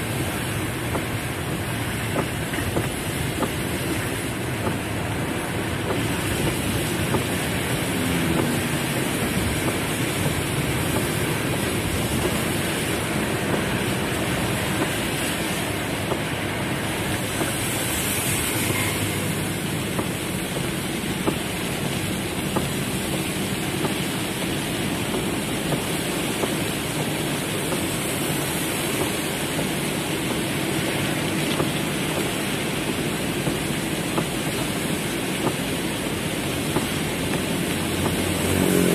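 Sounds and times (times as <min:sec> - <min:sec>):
heavy rain drumming on car roof: 0:00.0 - 0:38.9.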